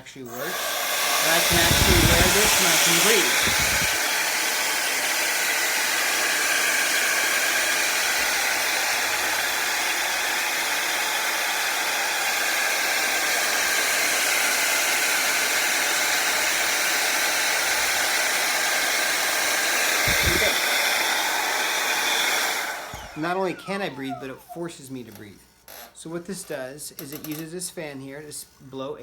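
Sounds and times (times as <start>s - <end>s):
ventilator fan blowing air: 0.2s - 24.3s.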